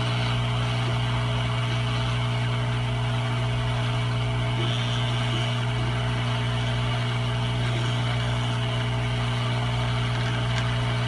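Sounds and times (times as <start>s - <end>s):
constant low hum: 0.0s - 11.0s.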